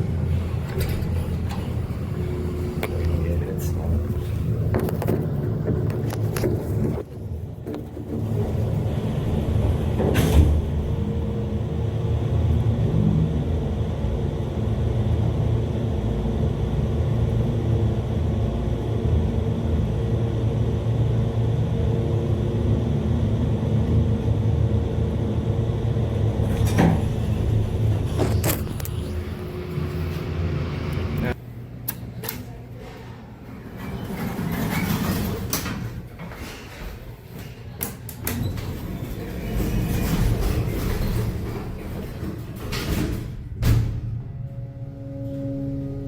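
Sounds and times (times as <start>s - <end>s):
elevator rumble with faint hum: 0.0s - 46.0s.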